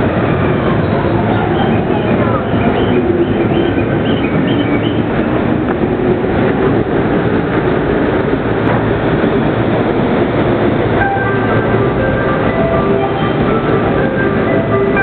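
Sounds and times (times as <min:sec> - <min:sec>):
electric train rumbling to a stop: 0:00.0 - 0:15.0.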